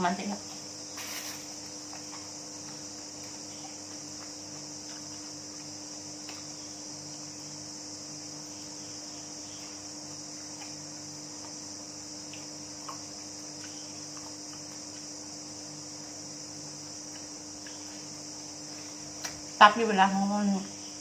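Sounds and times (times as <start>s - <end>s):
crickets chirring: 0.0s - 21.0s
steady low hum: 0.0s - 21.0s.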